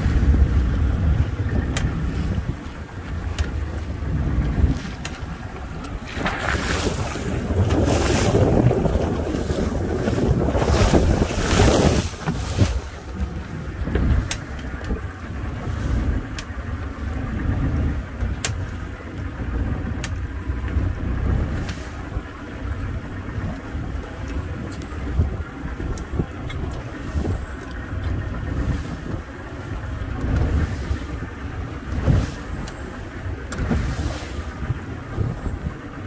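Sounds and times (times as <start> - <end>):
boat engine rumble: 0.0 - 36.0
rush of spray over bow: 0.0 - 36.0
wind buffeting microphone: 0.0 - 36.0.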